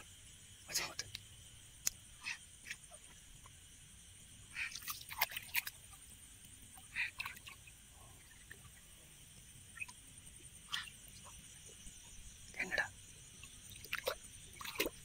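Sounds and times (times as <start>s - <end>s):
insects and frogs chorus: 0.0s - 15.0s.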